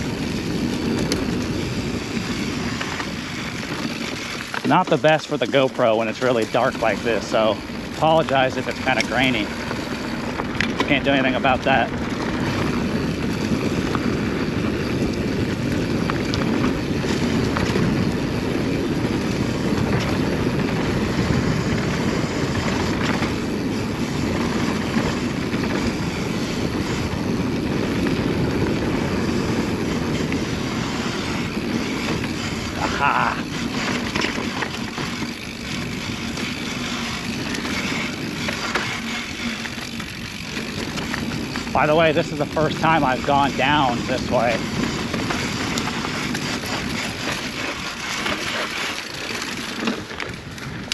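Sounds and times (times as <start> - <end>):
bike rattling over bumps: 0.0 - 50.9
tyre noise on dirt: 0.0 - 50.9
wind on microphone: 0.0 - 50.9.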